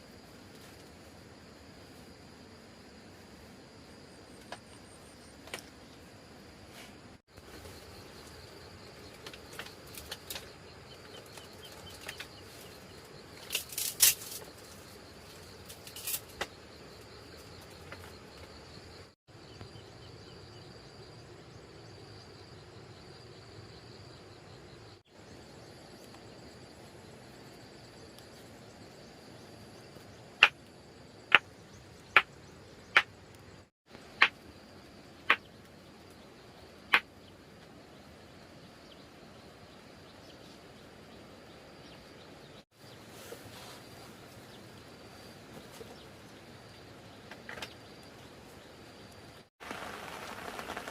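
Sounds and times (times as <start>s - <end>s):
high insect drone: 7.3s - 50.9s.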